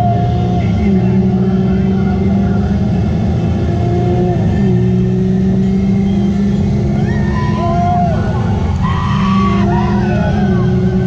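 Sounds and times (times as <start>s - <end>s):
ride vehicle on track: 0.0s - 11.0s.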